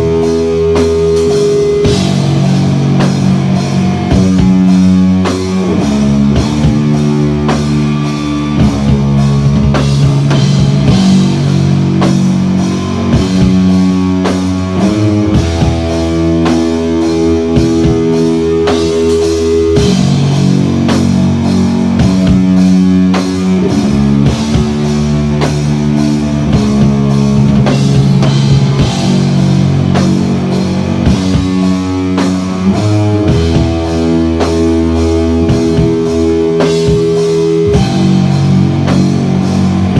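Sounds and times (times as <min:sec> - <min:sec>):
distorted electric guitar chords: 0:00.0 - 0:39.9
drum kit beat: 0:00.0 - 0:39.9.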